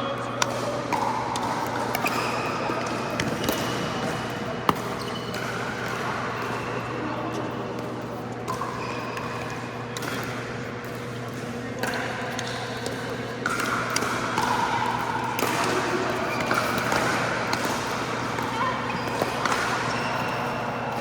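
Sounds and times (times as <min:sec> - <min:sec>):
chatter of players: 0:00.0 - 0:21.0.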